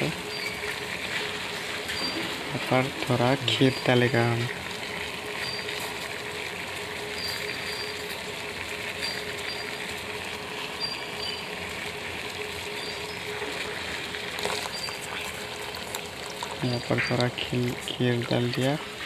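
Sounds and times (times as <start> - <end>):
water boiling in saucepan: 0.0 - 19.0.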